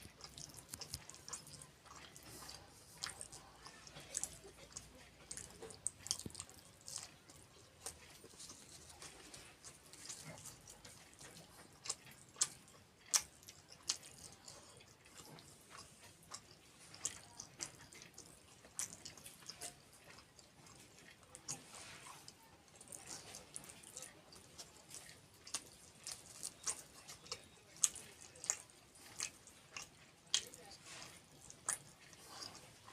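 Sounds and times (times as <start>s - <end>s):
person chewing and lip smacking: 0.0s - 32.9s.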